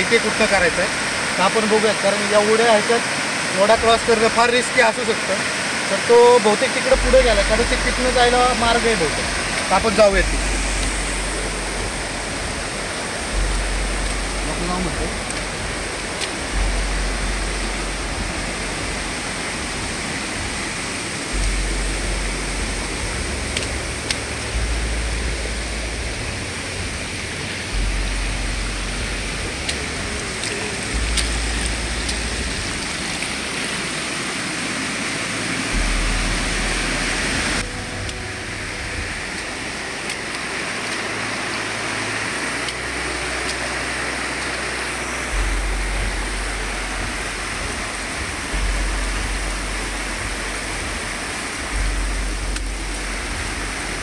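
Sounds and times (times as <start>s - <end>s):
rushing stream water: 0.0s - 54.0s
low rumble: 6.9s - 54.0s.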